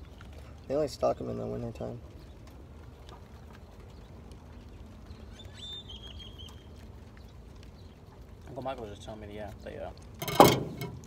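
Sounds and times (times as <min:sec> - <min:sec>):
faint outdoor rumble: 0:00.0 - 0:11.0.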